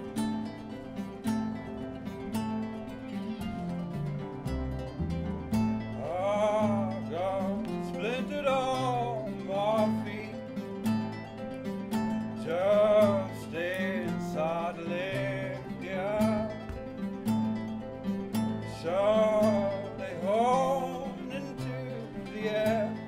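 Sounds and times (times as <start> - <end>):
double bass and cello: 0.0 - 23.0
melody rising and falling: 0.0 - 23.0
strummed acoustic guitars: 0.0 - 23.0.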